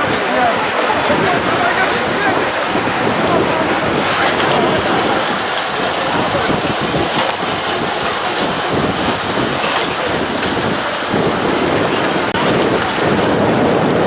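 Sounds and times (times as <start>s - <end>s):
loud rushing noise: 0.0s - 14.0s
truck engine running: 0.0s - 14.0s.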